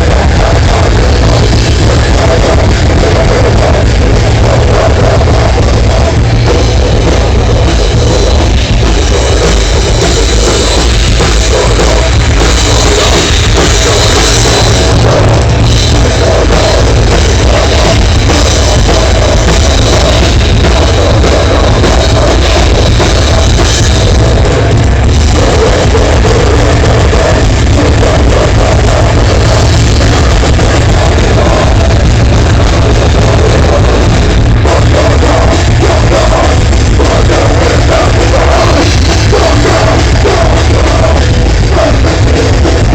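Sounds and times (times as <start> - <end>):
drum kit: 0.0 - 42.9
loud distorted rock music: 0.0 - 42.9.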